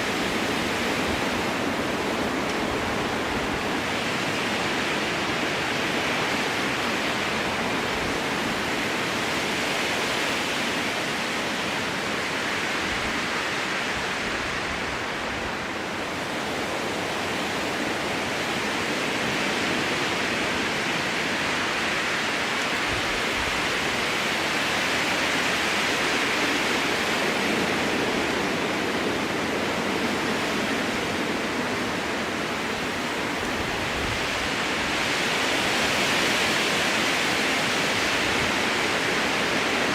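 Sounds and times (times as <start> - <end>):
strong wind through trees: 0.0 - 39.9.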